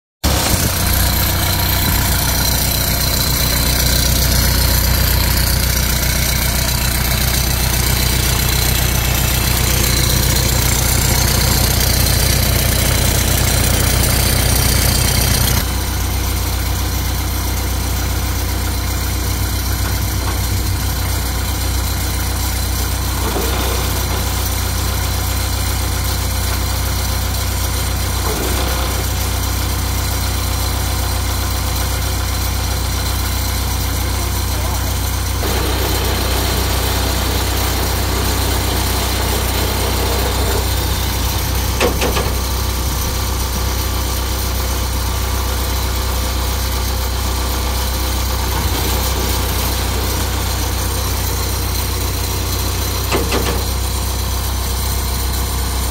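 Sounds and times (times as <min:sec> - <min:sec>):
diesel engine idling: 0:00.2 - 0:55.9.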